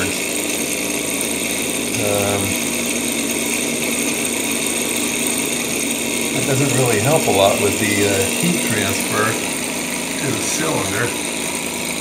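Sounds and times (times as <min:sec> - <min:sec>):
engine mechanical rattle: 0:00.0 - 0:12.0
propeller whirring: 0:00.0 - 0:12.0.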